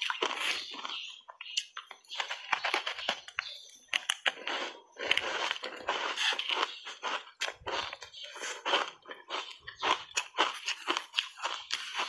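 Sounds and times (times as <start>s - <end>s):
ice crunching in mouth: 0.0s - 12.0s.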